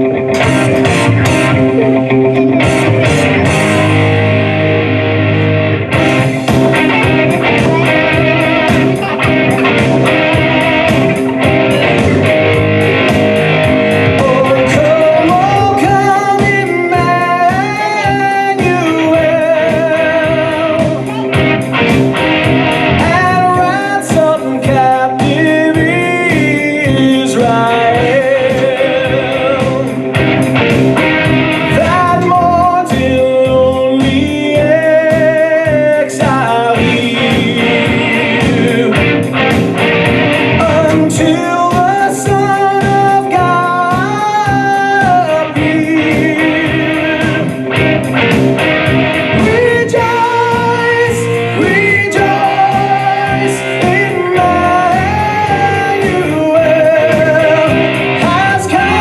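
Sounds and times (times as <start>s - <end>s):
christmas song with singing: 0.0s - 4.0s, 6.1s - 31.0s, 31.6s - 59.0s.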